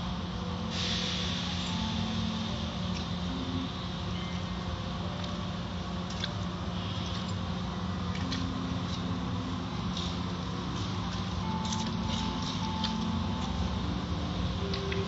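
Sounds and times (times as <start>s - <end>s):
car wash machinery hum: 0.0s - 15.0s.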